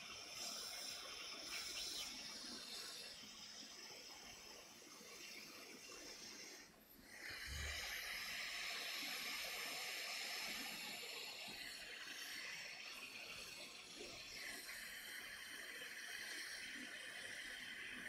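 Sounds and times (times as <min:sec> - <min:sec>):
hot air rework station hissing: 0:00.0 - 0:18.0.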